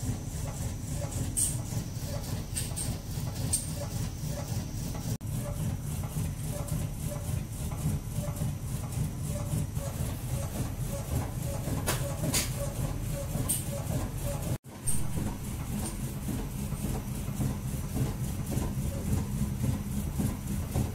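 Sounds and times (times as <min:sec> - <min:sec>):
motor rumble: 0:00.0 - 0:20.9.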